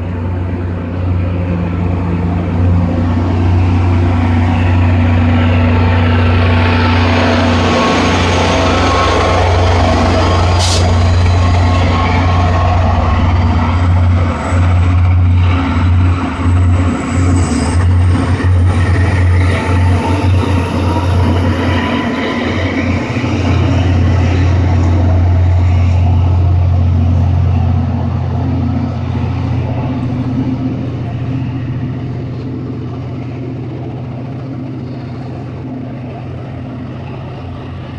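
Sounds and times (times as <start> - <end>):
diesel locomotive engine working hard: 0.0 - 37.9.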